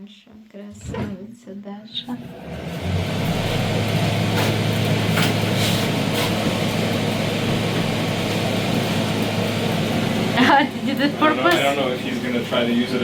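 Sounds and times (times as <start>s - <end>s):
low mechanical hum: 0.3s - 13.0s.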